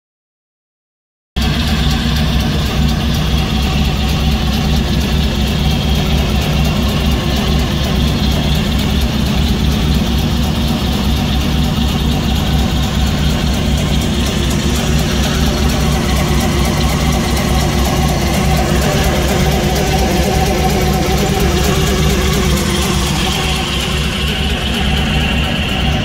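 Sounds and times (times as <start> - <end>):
car engine idling: 1.4 - 26.0.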